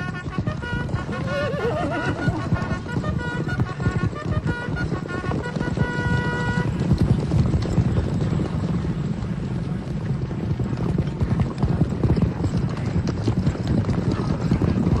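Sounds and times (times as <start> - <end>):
horses galloping: 0.0 - 15.0.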